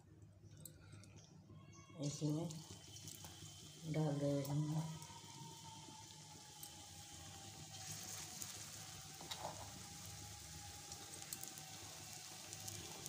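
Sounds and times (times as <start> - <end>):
batter sizzling in hot oil: 2.0 - 13.0.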